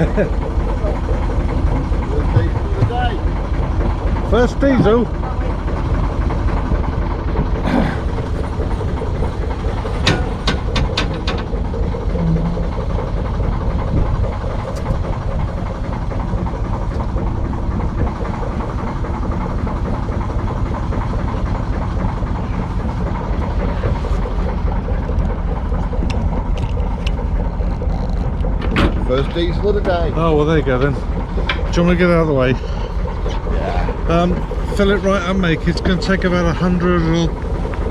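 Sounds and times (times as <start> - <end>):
diesel engine rumbling: 0.0 - 37.9.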